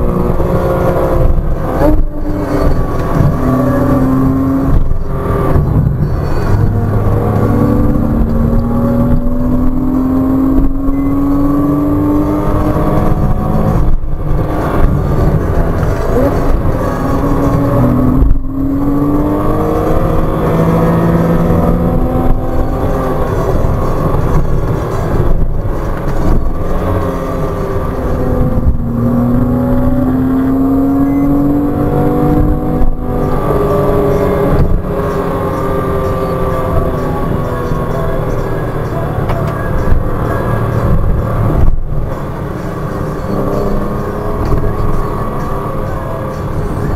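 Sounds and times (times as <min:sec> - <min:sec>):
car engine accelerating hard: 0:00.0 - 0:46.9.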